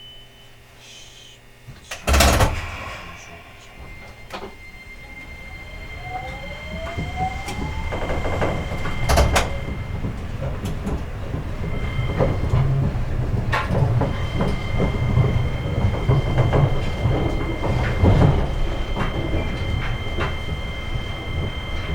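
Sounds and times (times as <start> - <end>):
electric train inverter whine: 0.0 - 21.9
train running rumble: 0.0 - 21.9.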